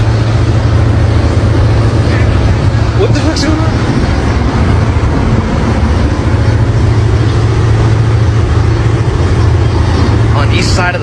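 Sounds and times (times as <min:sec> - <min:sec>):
boat motor droning: 0:00.0 - 0:11.0
rushing air and water: 0:00.0 - 0:11.0.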